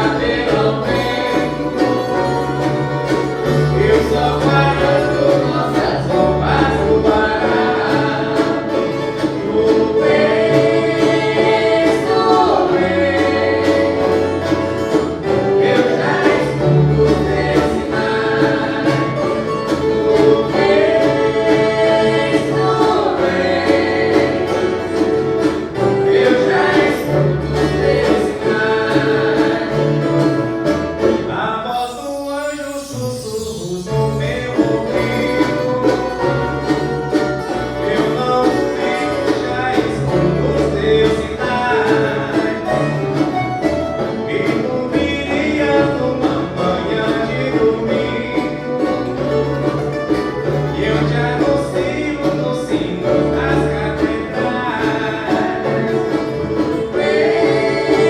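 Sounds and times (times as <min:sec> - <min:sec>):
people singing together: 0:00.0 - 0:58.0
strummed guitar ensemble: 0:00.0 - 0:58.0.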